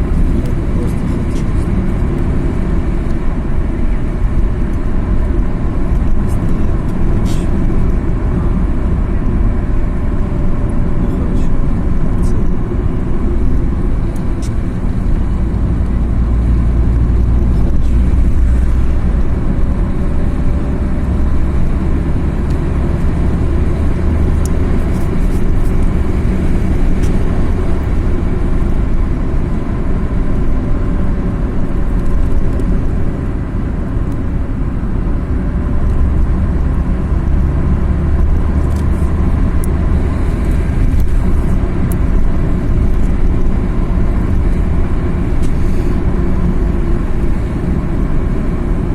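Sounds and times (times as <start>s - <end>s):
car engine: 0.0s - 48.9s
road rumble: 0.0s - 48.9s.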